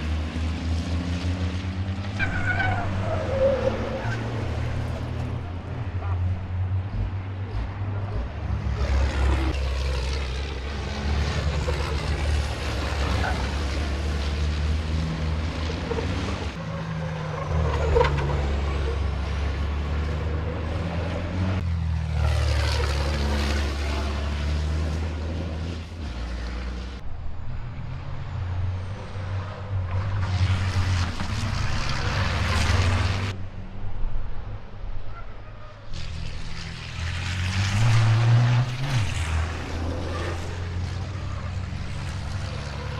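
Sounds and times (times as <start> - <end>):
truck diesel engines racing: 0.0 - 42.9.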